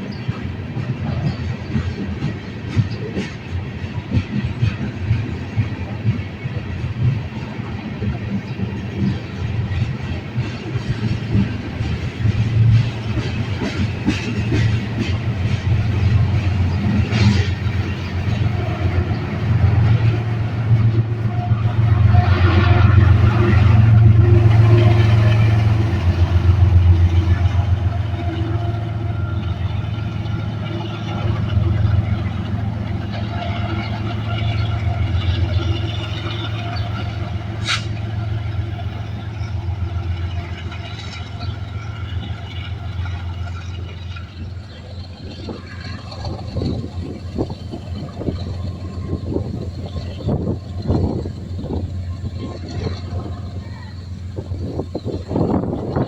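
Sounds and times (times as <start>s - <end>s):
freight train rumbling on rails: 0.0s - 56.0s
train wheel clicks: 0.0s - 56.0s.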